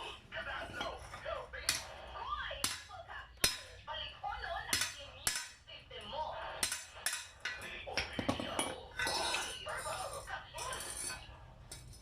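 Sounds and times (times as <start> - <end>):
people talking: 0.0 - 11.4.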